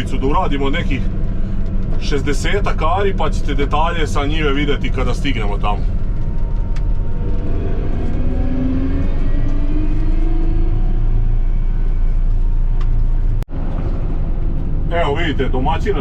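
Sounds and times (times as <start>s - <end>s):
faint engine whine: 0.0s - 16.0s
vehicle engine rumbling: 0.0s - 16.0s.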